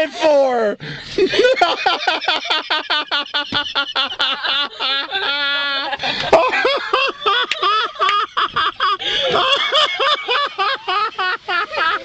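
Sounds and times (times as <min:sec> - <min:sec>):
people laughing hard: 0:01.1 - 0:12.0.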